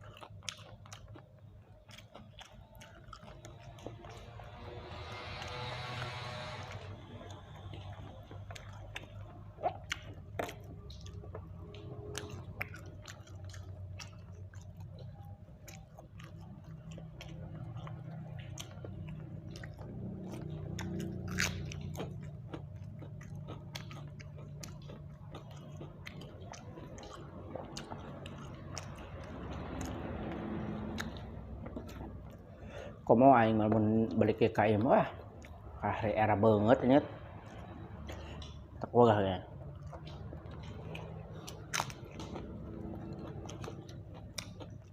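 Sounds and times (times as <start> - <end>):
mouth clicks and crunches: 0.0 - 4.6, 7.0 - 32.9, 37.4 - 44.9
person chewing chicken: 0.0 - 35.8, 37.4 - 38.9, 39.5 - 44.9
low steady hum: 0.0 - 44.9.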